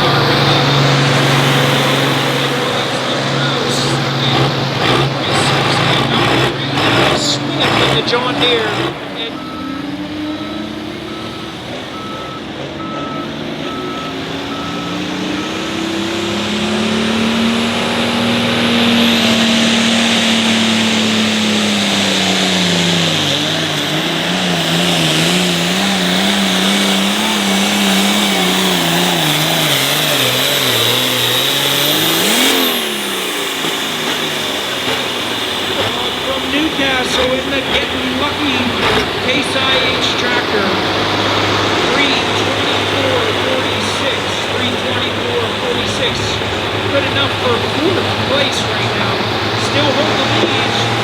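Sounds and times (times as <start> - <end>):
engine revving: 0.0 - 51.0
tractor engine at full throttle: 0.0 - 51.0.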